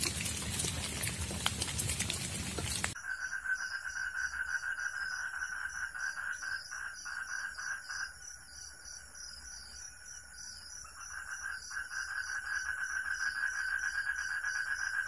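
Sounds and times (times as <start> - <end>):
high steady insect call: 0.0 - 15.0
insects pulsing trills: 0.0 - 15.0
low pulsing insect call: 0.0 - 15.0.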